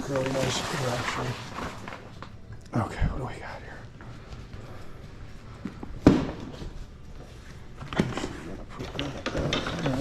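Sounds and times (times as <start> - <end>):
scraping and rustling of contents: 0.0 - 2.6, 3.9 - 10.0.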